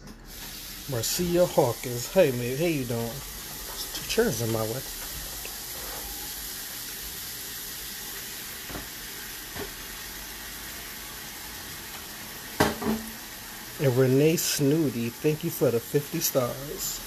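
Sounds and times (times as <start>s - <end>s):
steady background hiss: 0.1s - 17.0s.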